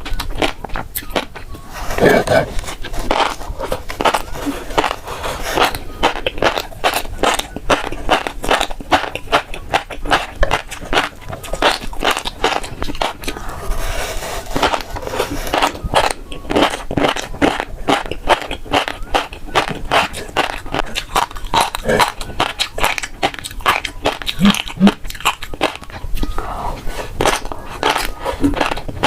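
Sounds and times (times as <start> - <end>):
chewing fish roe pops: 0.0 - 13.4, 14.6 - 26.4, 27.2 - 29.0.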